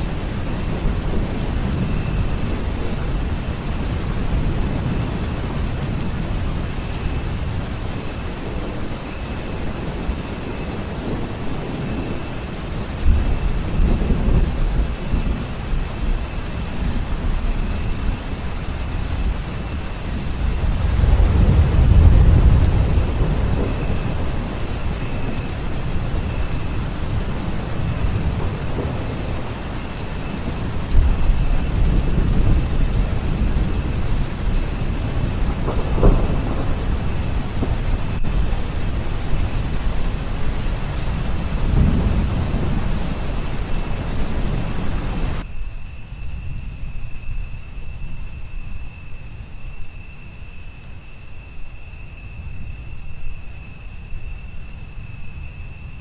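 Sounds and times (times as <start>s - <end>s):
thunder rumbling: 0.0s - 45.5s
steady rain falling: 0.0s - 56.0s.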